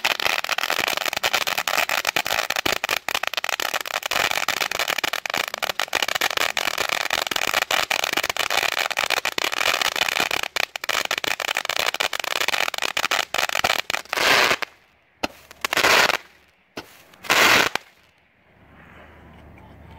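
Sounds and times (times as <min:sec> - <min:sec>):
firework fountain crackling: 0:00.0 - 0:18.8.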